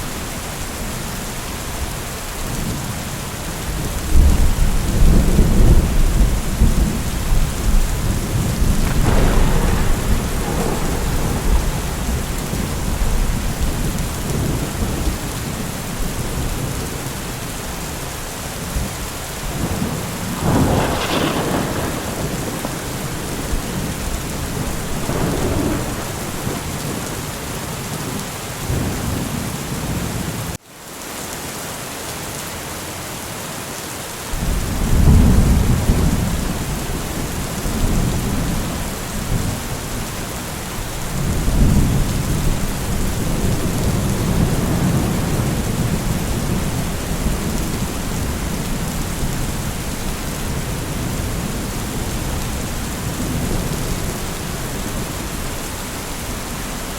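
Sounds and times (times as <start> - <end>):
heavy rain: 0.0 - 56.9
rolling thunder: 3.7 - 18.0, 18.6 - 30.2, 34.4 - 56.6.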